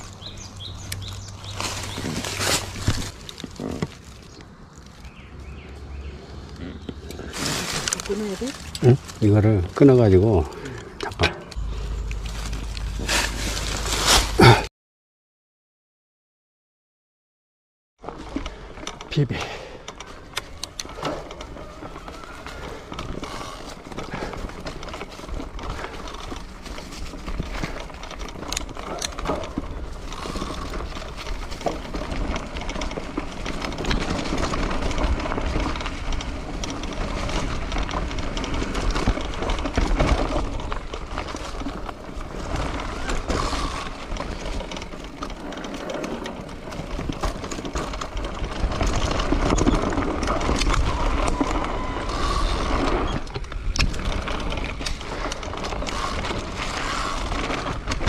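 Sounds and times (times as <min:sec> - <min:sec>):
bicycle road noise rumble: 0:00.0 - 0:14.7, 0:18.0 - 0:58.0.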